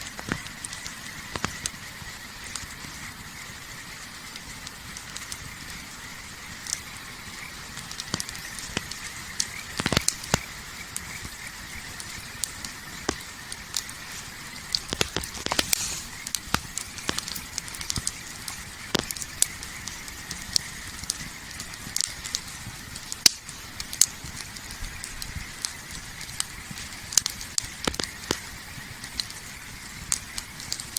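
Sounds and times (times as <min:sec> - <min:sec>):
campfire crackling and popping: 0:00.0 - 0:30.9
fire hiss: 0:00.0 - 0:30.9.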